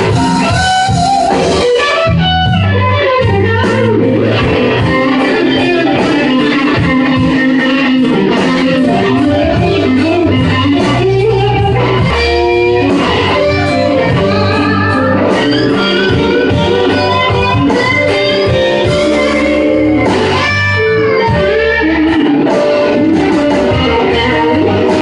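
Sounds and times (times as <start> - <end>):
blues band playing: 0.0 - 25.0
electric guitar solo: 0.0 - 25.0.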